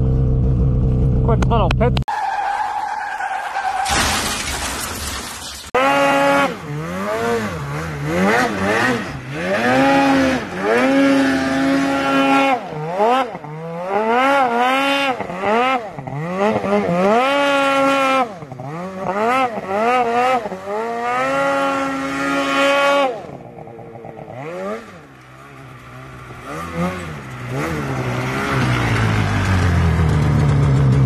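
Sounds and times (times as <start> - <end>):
snowmobile engine revving: 5.7 - 31.0.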